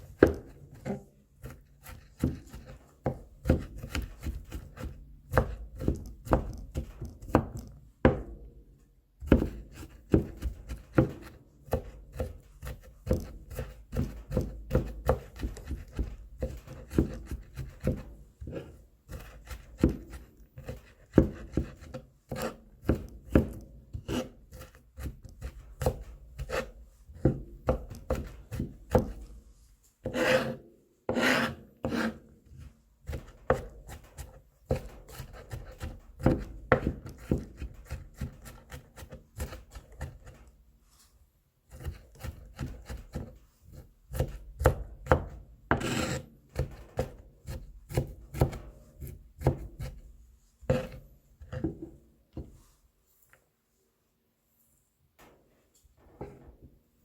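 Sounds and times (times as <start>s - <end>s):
knife scraping cutting board: 0.1s - 7.3s, 9.3s - 23.1s, 23.9s - 29.4s, 30.0s - 40.4s, 41.7s - 44.7s, 45.7s - 50.0s, 50.6s - 52.6s
knife chopping on cutting board: 0.1s - 8.4s, 9.2s - 29.3s, 30.0s - 40.4s, 41.7s - 50.0s, 50.7s - 52.6s.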